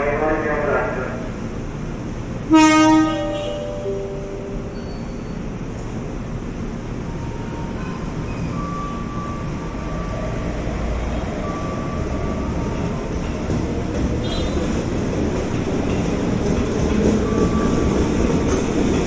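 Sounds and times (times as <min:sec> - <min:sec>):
electric train wheels rumbling: 0:00.0 - 0:19.0.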